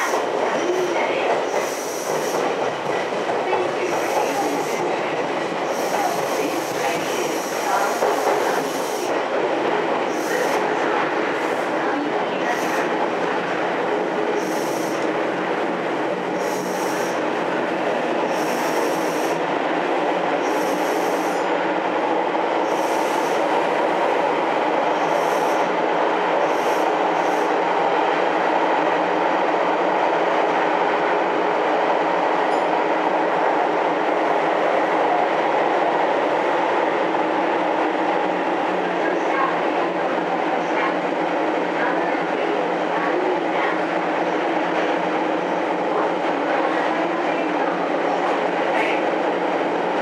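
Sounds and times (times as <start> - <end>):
subway train rumbling in tunnel: 0.0 - 50.0.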